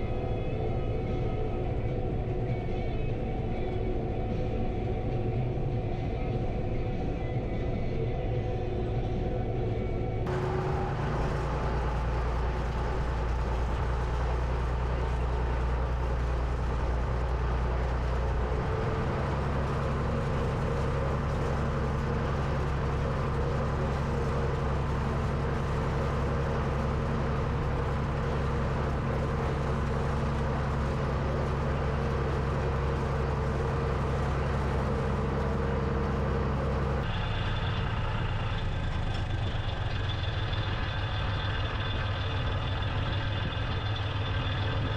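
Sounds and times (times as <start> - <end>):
high steady whine: 0.0 - 44.9
tractor engine running under load: 0.0 - 44.9.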